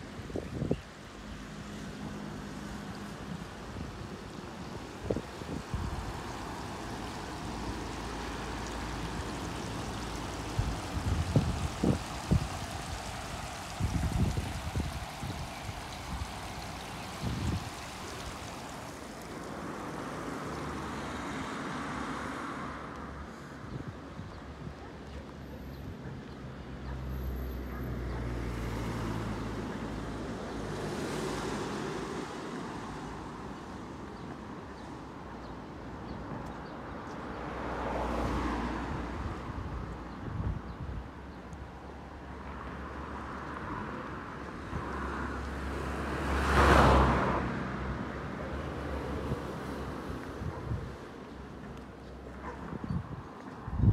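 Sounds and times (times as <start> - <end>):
cars passing: 0.0 - 53.9
low traffic rumble: 0.0 - 53.9.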